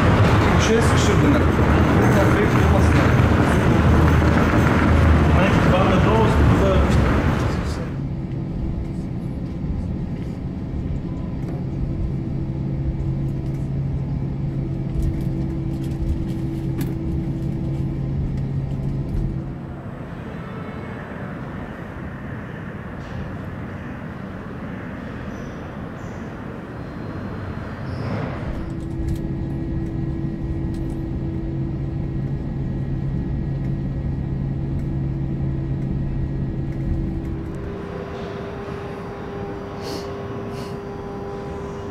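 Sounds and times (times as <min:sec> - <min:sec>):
jet engines idling in cabin: 0:00.0 - 0:41.9.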